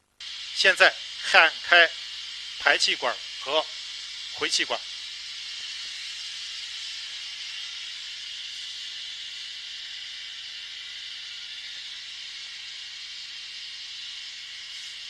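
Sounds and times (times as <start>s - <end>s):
brazing torch hissing: 0.2s - 15.0s.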